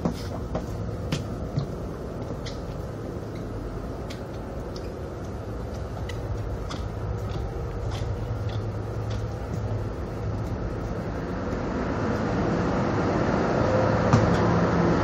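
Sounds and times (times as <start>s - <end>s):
ferry engines humming: 0.0s - 15.0s.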